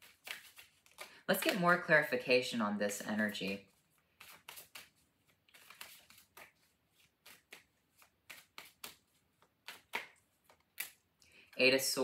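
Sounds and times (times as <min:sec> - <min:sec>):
cards shuffling by hand: 0:00.0 - 0:02.2, 0:02.9 - 0:12.0.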